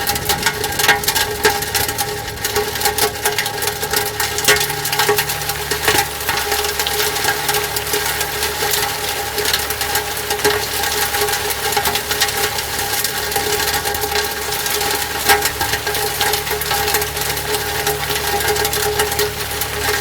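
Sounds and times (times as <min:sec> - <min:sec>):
crackle of debris hits: 0:00.0 - 0:20.0
steady hum: 0:00.0 - 0:20.0.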